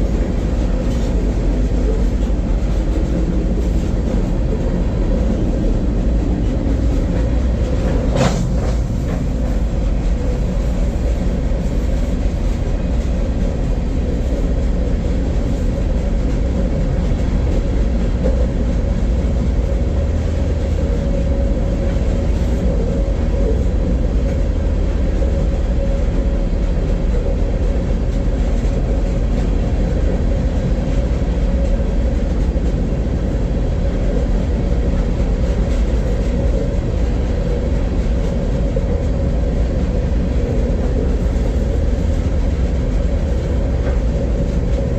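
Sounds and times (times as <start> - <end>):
freight train rumbling: 0.0 - 44.9.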